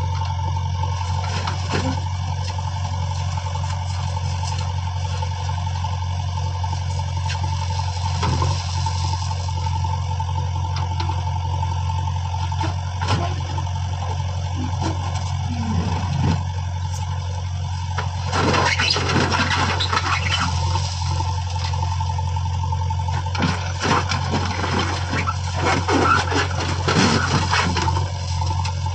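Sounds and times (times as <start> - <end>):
heavy machine engine running: 0.0 - 28.9.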